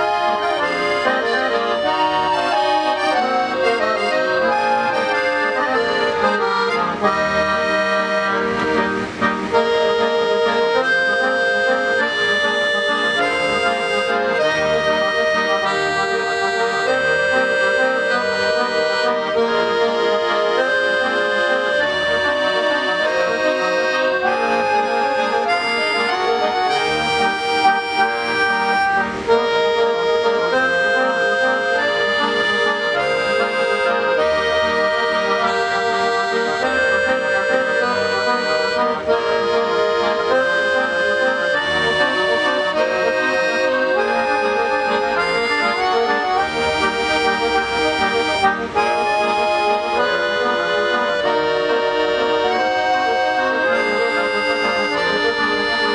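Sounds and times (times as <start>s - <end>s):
accordions playing: 0.0s - 55.9s.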